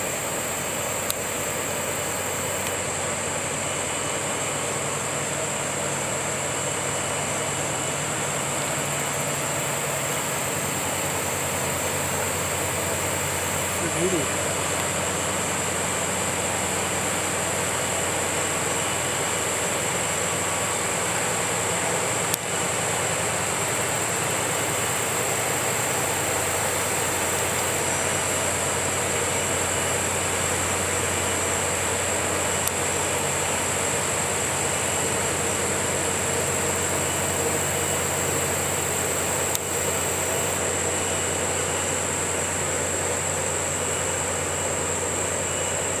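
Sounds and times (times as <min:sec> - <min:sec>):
high-pitched hiss: 0:00.0 - 0:03.0, 0:08.2 - 0:46.0
boat diesel engines droning: 0:00.0 - 0:46.0.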